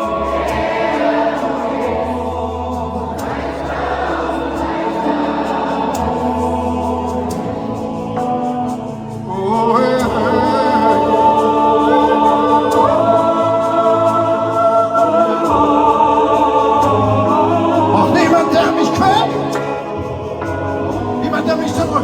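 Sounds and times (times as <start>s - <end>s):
crowd singing wordless notes: 0.0s - 22.0s.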